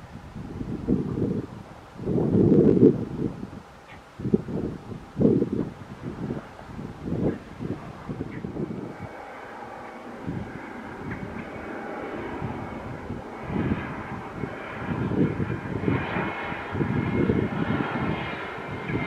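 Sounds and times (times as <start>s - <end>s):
faint jet whine: 0.0s - 19.0s
jet engines rumbling: 0.0s - 19.0s.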